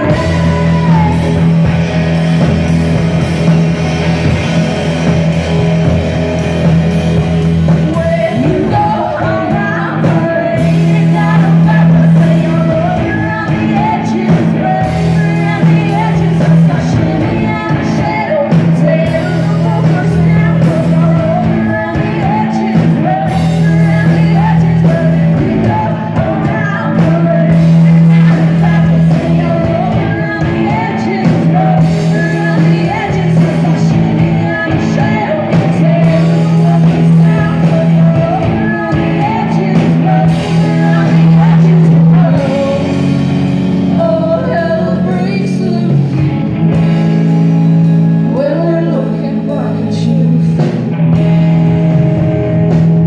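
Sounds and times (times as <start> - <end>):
woman singing: 0.0 - 4.6, 6.6 - 47.0, 47.9 - 51.3
live rock band playing: 0.0 - 53.0.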